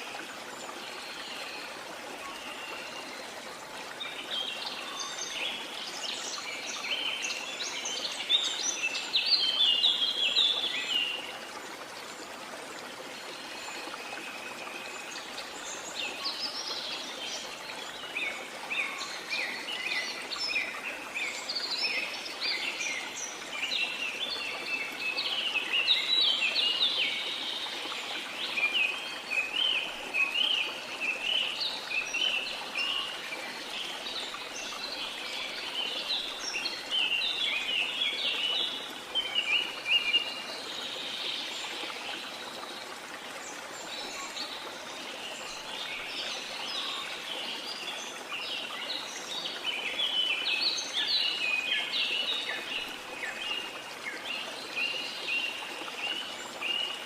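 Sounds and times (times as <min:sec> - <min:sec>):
steady hiss of rain: 0:00.0 - 0:57.0.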